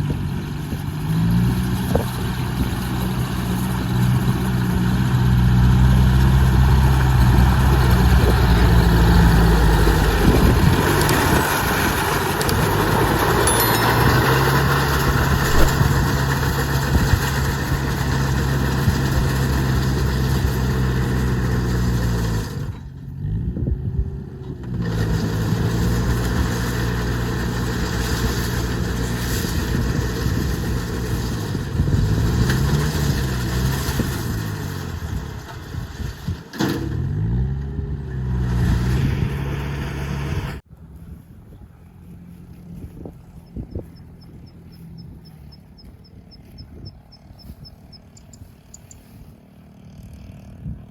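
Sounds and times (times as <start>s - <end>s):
engine running: 0.0s - 50.9s.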